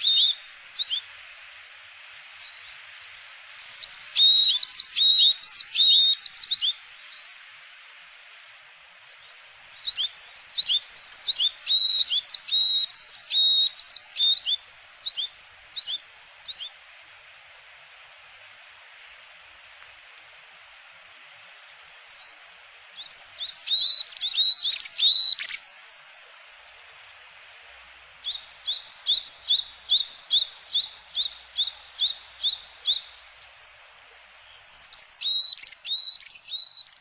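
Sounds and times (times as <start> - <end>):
faint steady hiss: 0.0 - 37.0
small songbirds chirping: 0.0 - 37.0.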